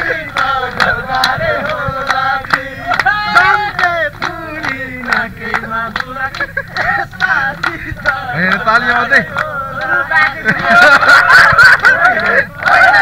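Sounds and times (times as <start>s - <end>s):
group singing and chanting: 0.0s - 13.0s
sharp handclaps: 0.3s - 13.0s.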